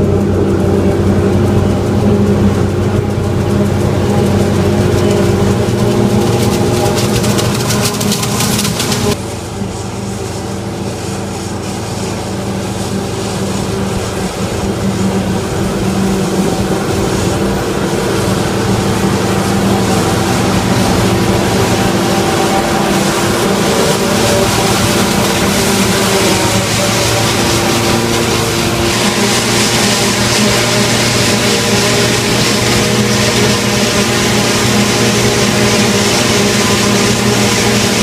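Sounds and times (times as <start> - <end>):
tractor diesel engine running: 0.0 - 38.0
forage harvester chopping maize: 3.4 - 14.2, 17.7 - 38.0.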